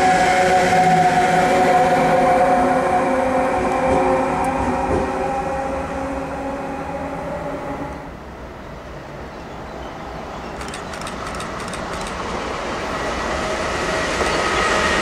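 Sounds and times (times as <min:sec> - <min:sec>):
electric locomotive motor whine: 0:00.0 - 0:08.3, 0:10.6 - 0:15.0
wheels rumbling on rail: 0:00.0 - 0:15.0.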